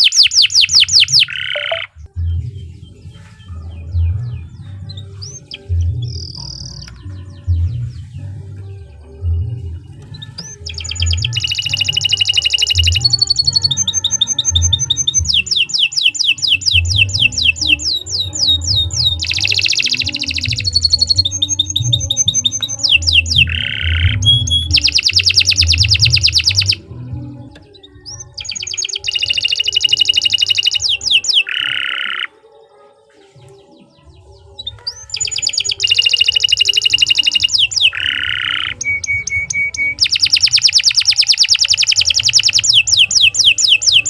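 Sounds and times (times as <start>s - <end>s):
canary singing trills: 0.0s - 44.0s.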